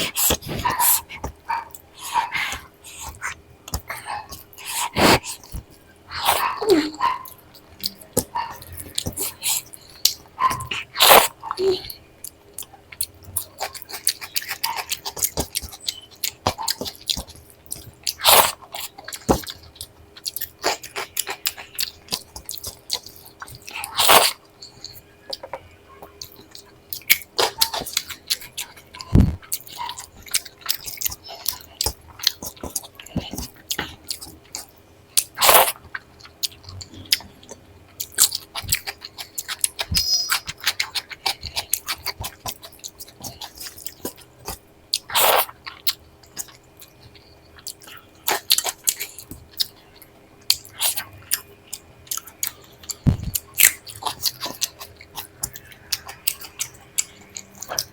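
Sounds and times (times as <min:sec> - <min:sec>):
chewing and smacking: 0:00.0 - 0:57.9.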